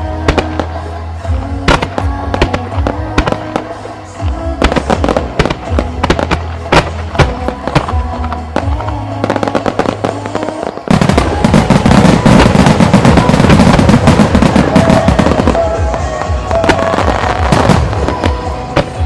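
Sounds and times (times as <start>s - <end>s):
crackling firework stars: 0.0s - 19.0s
fireworks bursting: 0.0s - 19.0s
music for the show: 0.0s - 19.0s.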